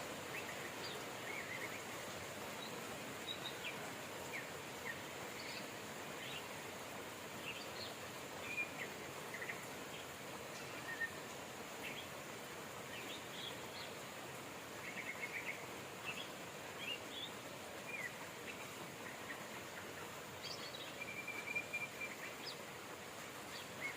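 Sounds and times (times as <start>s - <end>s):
rain hiss: 0.0s - 23.9s
small birds chirping: 0.2s - 23.9s.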